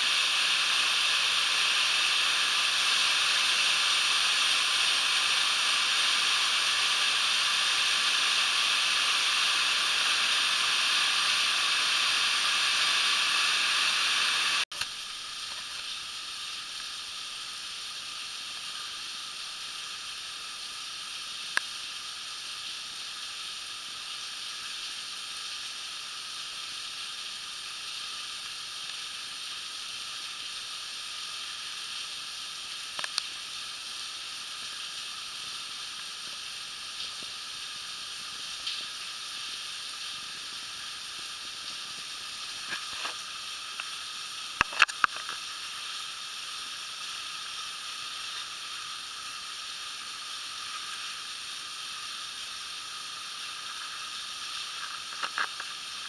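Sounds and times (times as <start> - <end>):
water spray falling: 0.0 - 56.0.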